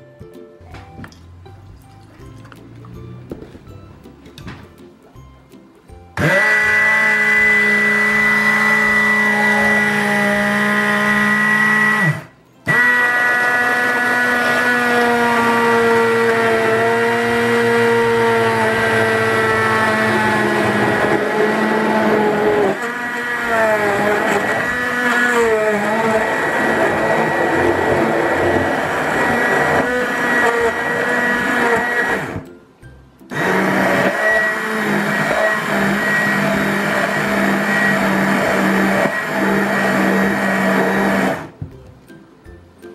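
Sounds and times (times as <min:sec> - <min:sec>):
stick blender motor whine: 0:06.2 - 0:32.4, 0:33.3 - 0:41.6.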